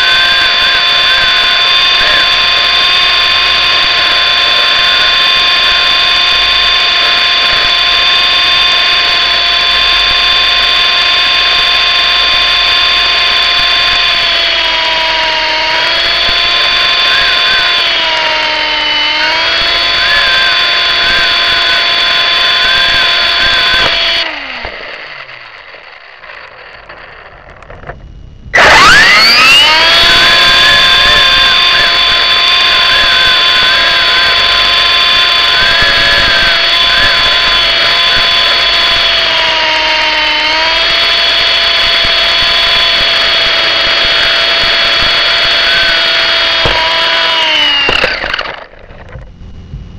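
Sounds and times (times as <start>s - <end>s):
electric motor whining: 0.0s - 49.9s.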